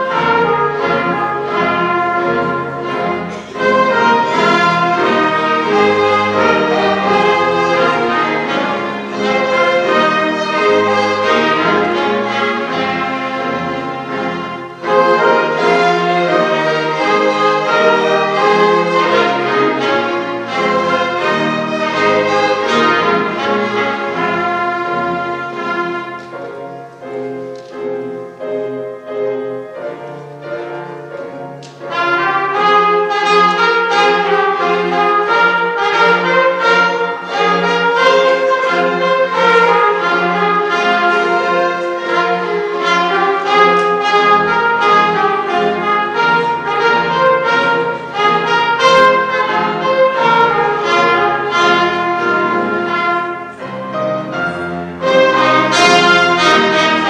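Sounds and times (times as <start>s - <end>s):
piano: 0.0s - 57.0s
string ensemble playing: 0.0s - 57.0s.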